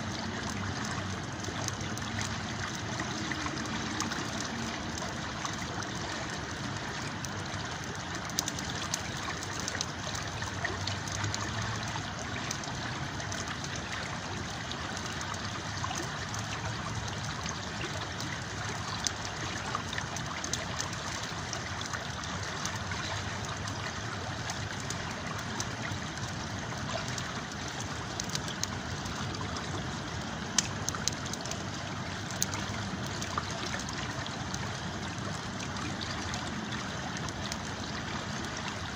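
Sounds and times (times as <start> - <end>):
campfire crackling: 0.0 - 38.9
river water flowing: 0.0 - 38.9.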